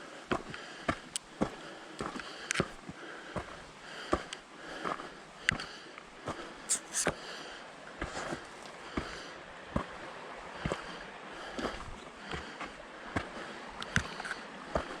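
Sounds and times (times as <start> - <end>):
person breathing: 0.0 - 9.4, 10.5 - 15.0
footsteps on a trail: 0.2 - 15.0.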